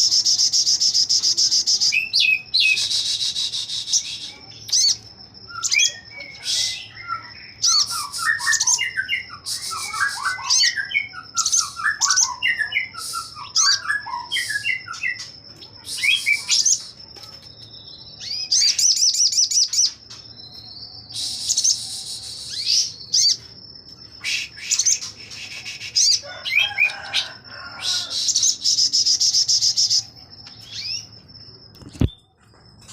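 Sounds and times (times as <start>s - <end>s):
bird singing rapid song: 0.0s - 32.9s.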